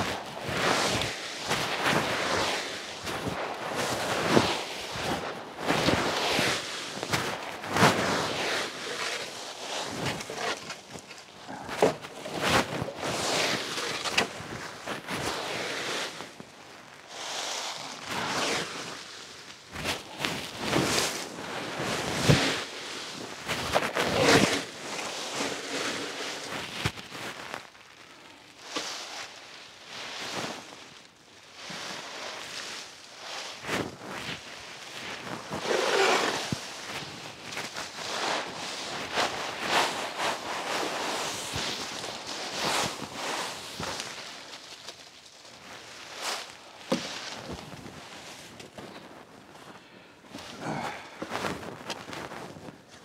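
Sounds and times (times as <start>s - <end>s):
rake scraping through dry leaves: 0.1s - 16.4s, 17.1s - 27.4s, 28.6s - 31.0s, 31.6s - 49.1s.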